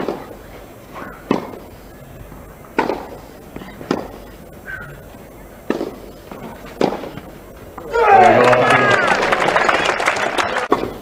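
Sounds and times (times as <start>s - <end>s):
tennis rackets hitting ball: 0.0s - 9.0s, 10.7s - 11.0s.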